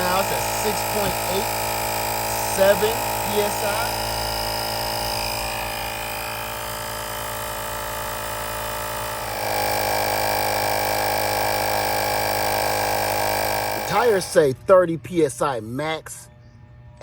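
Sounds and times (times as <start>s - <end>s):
air compressor motor hum: 0.0s - 14.6s.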